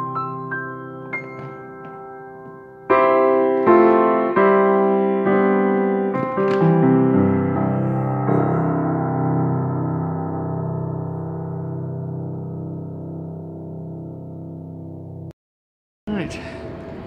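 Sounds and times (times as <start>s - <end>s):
piano chords: 0.0s - 15.4s.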